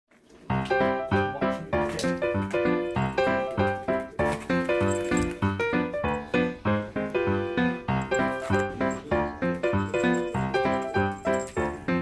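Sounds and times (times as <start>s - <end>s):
bouncy piano tune: 0.4s - 12.0s.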